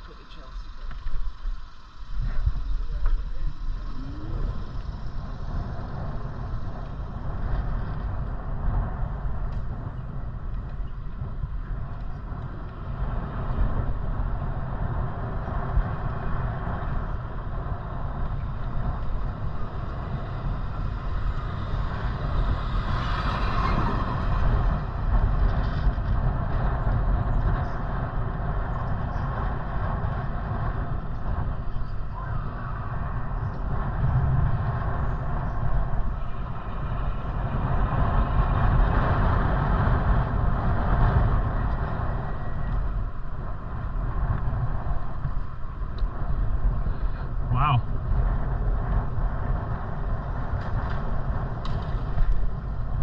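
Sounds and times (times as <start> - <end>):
street traffic noise: 0.0 - 53.0
wind buffeting microphone: 0.0 - 53.0.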